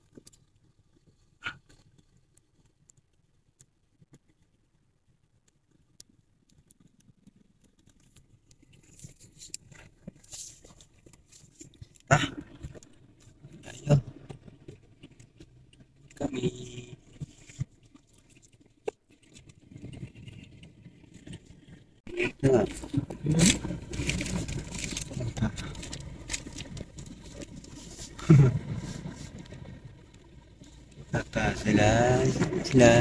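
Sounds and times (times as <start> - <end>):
rustling and handling noise: 0.0 - 33.0.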